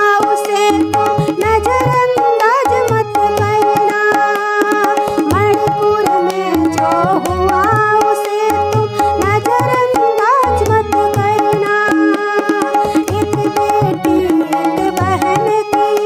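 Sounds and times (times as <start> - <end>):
harmonium chords: 0.0 - 16.0
tabla playing a rhythm: 0.0 - 16.0
woman singing: 0.0 - 16.0.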